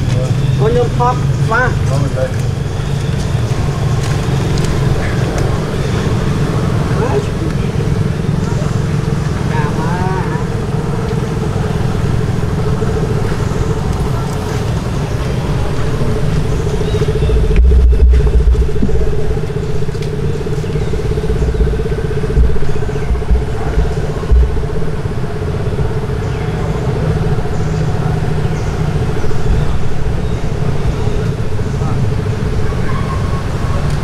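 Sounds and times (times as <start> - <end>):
heavy low rumble: 0.0 - 34.0
motor engine humming: 0.0 - 34.0.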